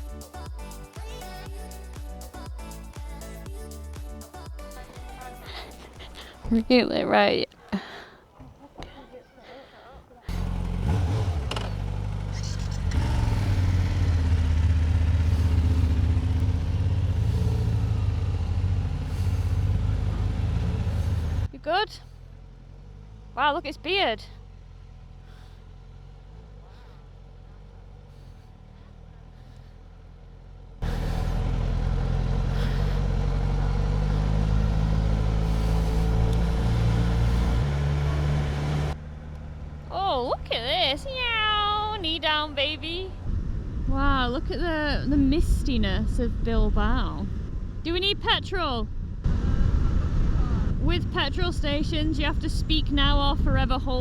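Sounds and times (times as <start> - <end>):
motorcycle engine running: 0.0 - 6.9, 10.2 - 54.0
wind and road rush: 10.3 - 54.0.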